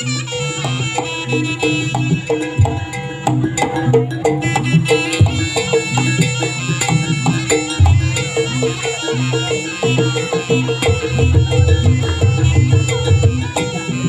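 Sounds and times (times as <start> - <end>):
shrill reed pipe melody: 0.0 - 14.0
hand drum strokes: 1.7 - 14.0
repeating pitched percussion notes: 1.7 - 14.0.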